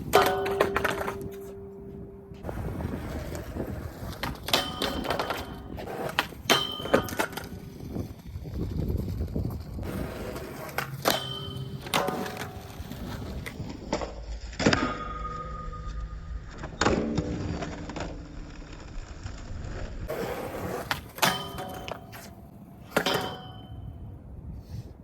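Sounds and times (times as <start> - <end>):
skateboard clacking on ground: 0.0 - 24.2
skateboard wheels rolling on pavement: 0.0 - 24.8.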